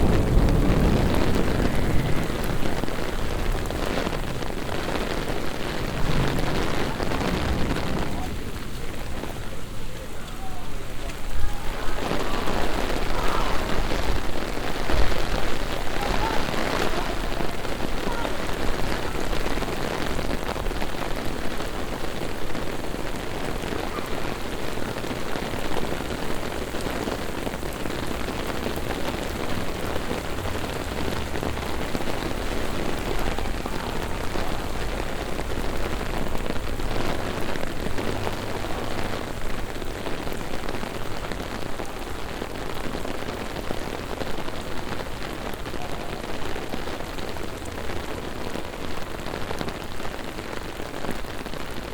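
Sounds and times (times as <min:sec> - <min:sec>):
heavy rain on street: 0:00.0 - 0:51.9.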